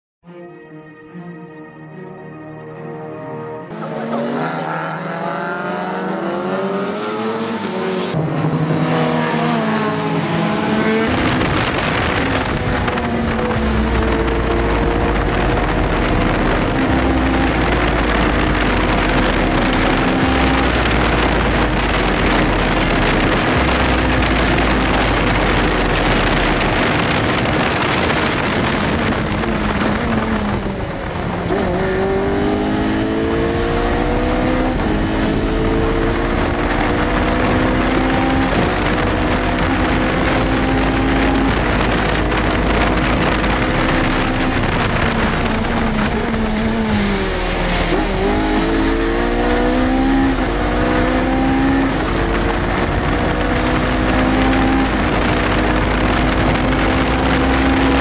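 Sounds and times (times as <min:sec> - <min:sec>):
racing engine pulling hard: 0:03.7 - 0:58.0
heavy wind noise: 0:06.2 - 0:58.0.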